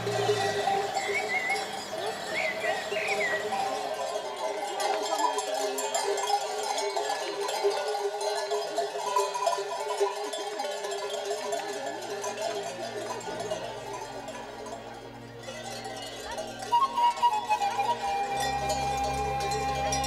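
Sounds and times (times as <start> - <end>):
sheep bells jangling: 0.0 - 20.0.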